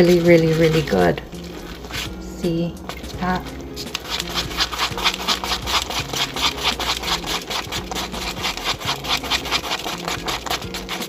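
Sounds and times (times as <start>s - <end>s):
chopsticks stirring sticky beans: 0.0s - 11.0s.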